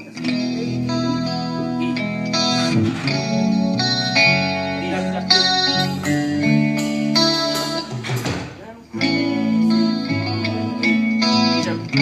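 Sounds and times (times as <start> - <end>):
electric guitar chords with effects: 0.0 - 12.0
live band playing: 0.0 - 12.0.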